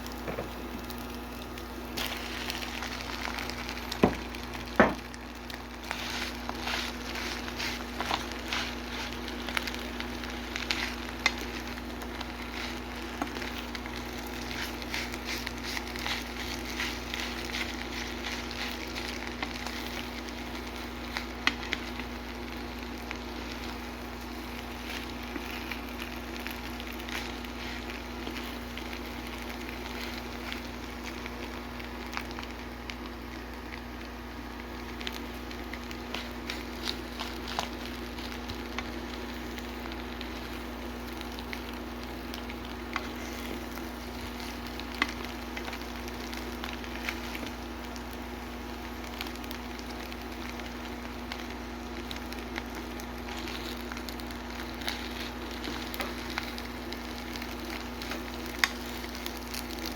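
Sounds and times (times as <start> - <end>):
rice sizzling in a hot pan: 0.0 - 59.9
steady low hum: 0.0 - 59.9.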